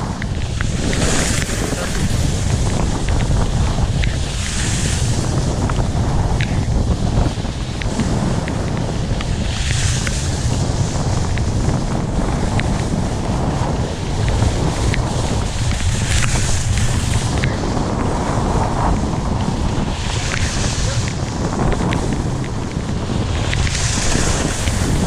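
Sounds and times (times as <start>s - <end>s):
skis hissing over snow: 0.0s - 25.0s
wind buffeting microphone: 0.0s - 25.0s.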